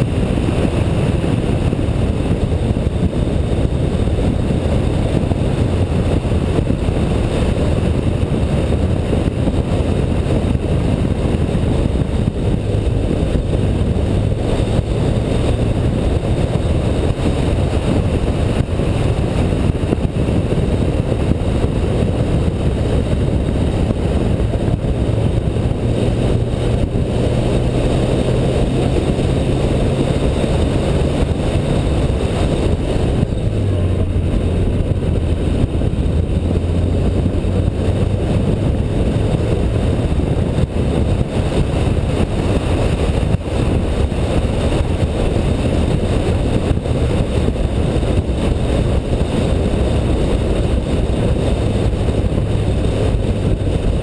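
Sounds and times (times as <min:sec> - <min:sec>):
car engine at speed: 0:00.0 - 0:54.0
wind and road noise: 0:00.0 - 0:54.0.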